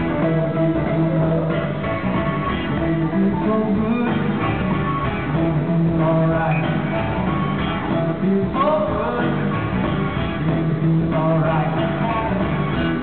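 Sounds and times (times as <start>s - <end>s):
bending electric guitar notes: 0.0s - 13.0s
blues-rock band playing: 0.0s - 13.0s.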